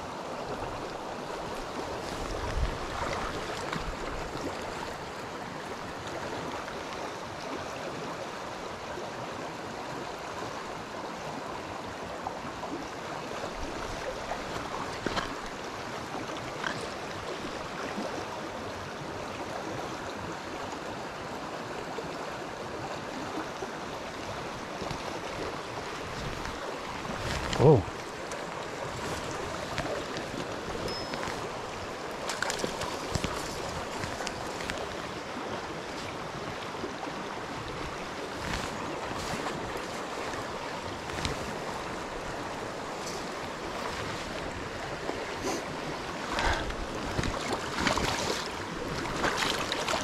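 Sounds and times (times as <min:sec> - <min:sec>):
stream rushing over stones: 0:00.0 - 0:50.0.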